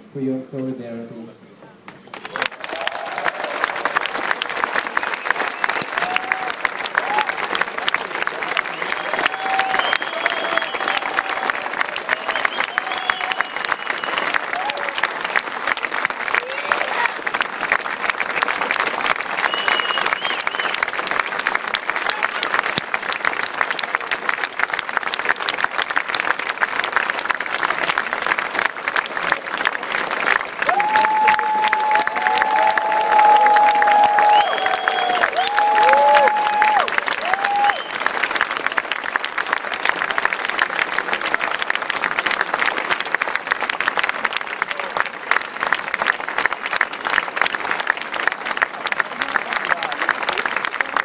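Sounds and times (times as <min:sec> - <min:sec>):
crowd applauding: 0:01.9 - 0:51.0.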